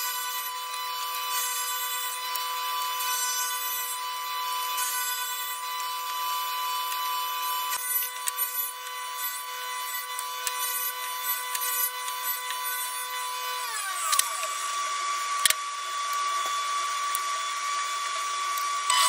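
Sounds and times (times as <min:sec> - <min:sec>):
table saw whining: 0:00.0 - 0:19.0.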